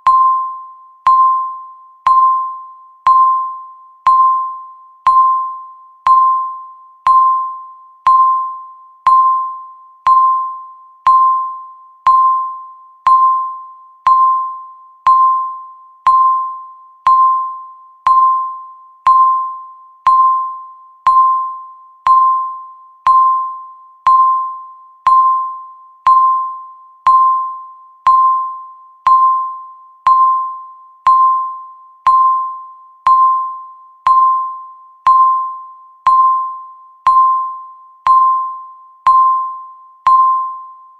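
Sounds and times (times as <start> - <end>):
countdown timer beeping: 0.0 - 40.8.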